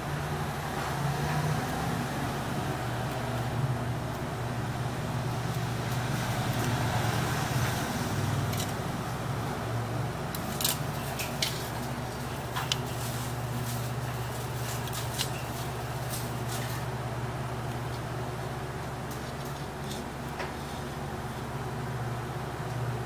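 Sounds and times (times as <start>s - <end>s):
low hum of bench equipment: 0.0s - 23.0s.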